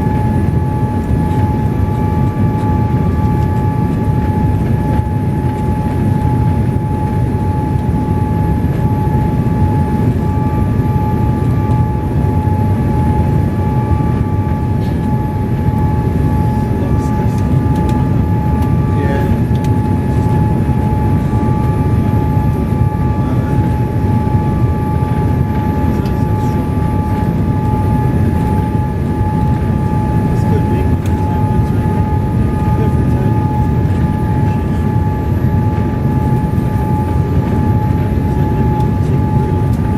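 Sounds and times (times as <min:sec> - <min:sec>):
engine and airflow rumble: 0:00.0 - 0:39.9
steady whine: 0:00.0 - 0:39.9.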